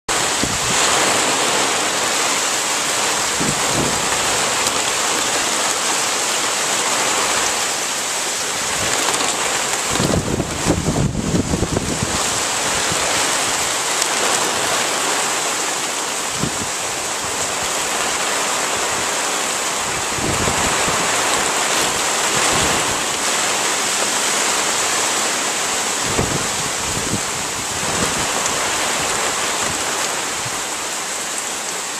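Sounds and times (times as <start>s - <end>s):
wind buffeting microphone: 0.1s - 5.8s, 8.5s - 15.5s, 16.2s - 30.7s
heavy rain and wind in trees: 0.1s - 31.9s.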